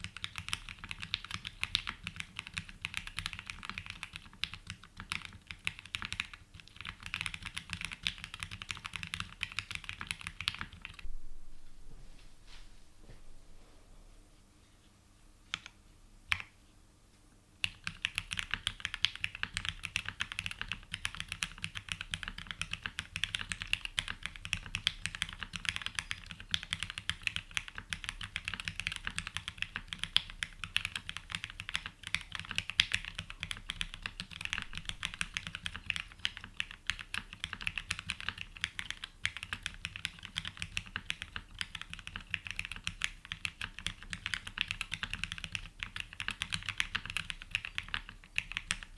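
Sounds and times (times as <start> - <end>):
typing on mechanical keyboard: 0.0 - 11.0, 17.6 - 48.9.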